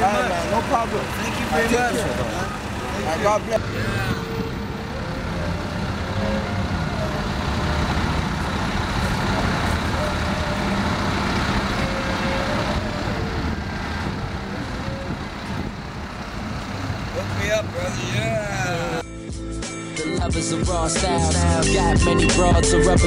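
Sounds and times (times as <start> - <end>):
traffic rumble on a busy road: 0.0 - 19.4.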